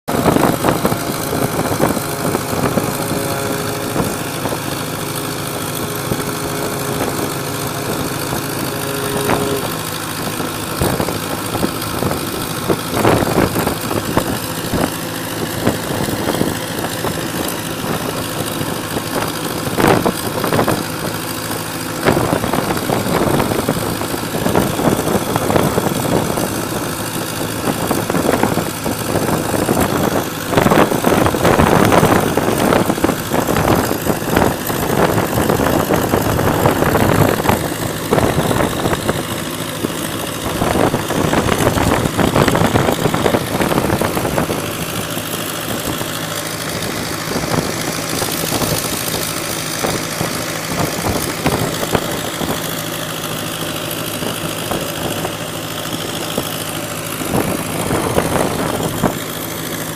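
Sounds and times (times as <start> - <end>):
diesel boat engine running: 0.0 - 59.9
splashing or wind noise surges: 0.1 - 59.9.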